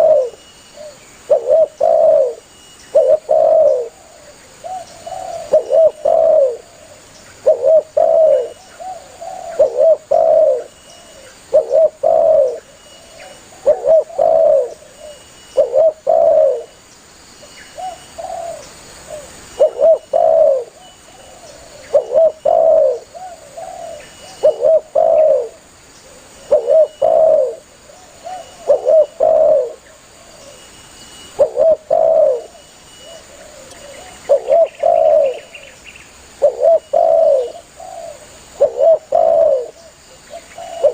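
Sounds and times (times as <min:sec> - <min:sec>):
dove cooing: 0:00.0 - 0:16.8, 0:17.8 - 0:30.7, 0:31.3 - 0:35.8, 0:36.4 - 0:40.9.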